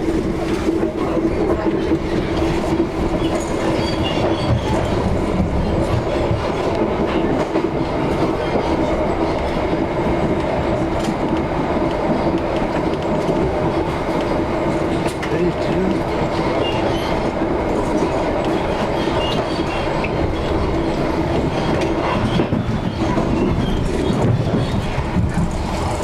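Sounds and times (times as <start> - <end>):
clickety-clack of rails: 0.0 - 26.0
train wheels rumbling on rails: 0.0 - 26.0.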